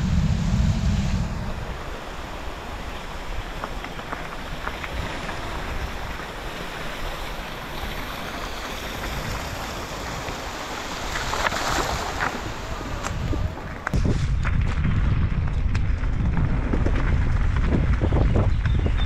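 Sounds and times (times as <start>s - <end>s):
bike tyre noise on dirt: 0.0s - 19.0s
wind on microphone: 0.0s - 19.0s.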